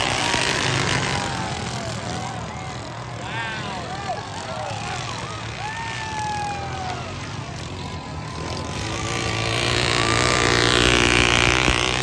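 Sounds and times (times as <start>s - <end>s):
lawn mower engines racing: 0.0s - 12.0s.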